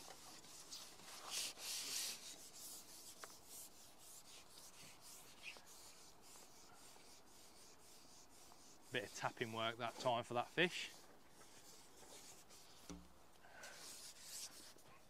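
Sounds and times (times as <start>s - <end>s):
soft rubbing and scraping: 0.0s - 13.0s, 13.6s - 15.0s.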